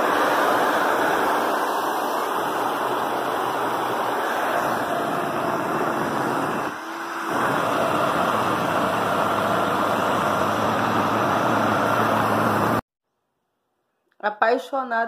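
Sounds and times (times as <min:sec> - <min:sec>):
hair dryer running: 0:00.0 - 0:12.8.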